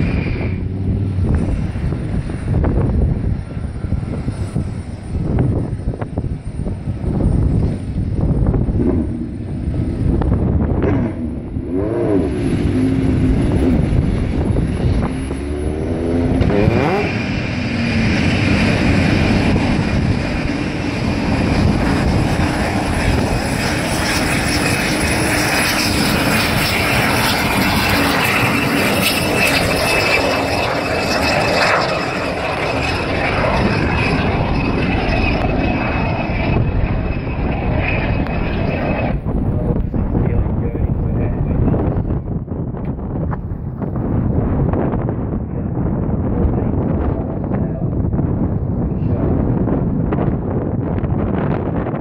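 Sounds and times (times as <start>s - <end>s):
high whine: 0.0s - 52.0s
jet engine roaring: 0.0s - 52.0s.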